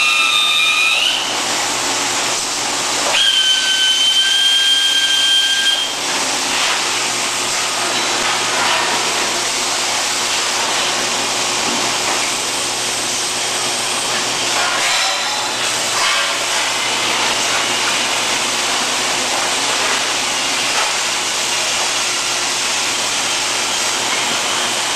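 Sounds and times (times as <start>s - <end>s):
loud hissing of welding line: 0.0s - 24.9s.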